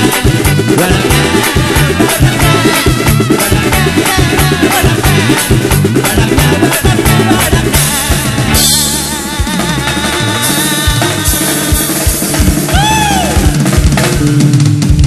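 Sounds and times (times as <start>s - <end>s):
bass drum and snare hits: 0.0s - 15.0s
live rock band playing: 0.0s - 15.0s.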